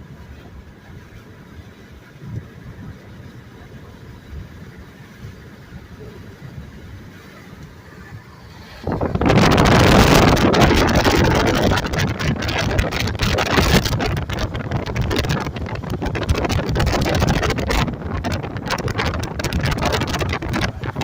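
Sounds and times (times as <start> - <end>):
car road noise: 0.0 - 21.0
wind buffeting microphone: 0.0 - 21.0.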